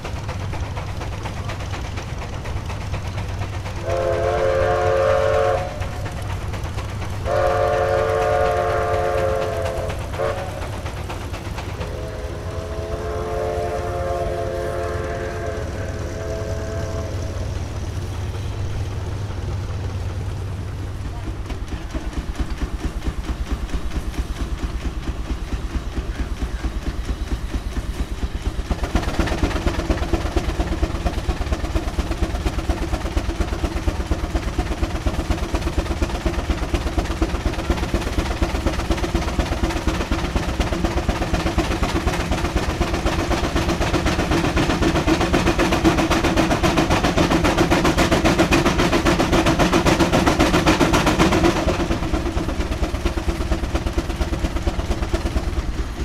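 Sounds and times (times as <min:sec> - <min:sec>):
steam traction engine beat: 0:00.0 - 0:56.0.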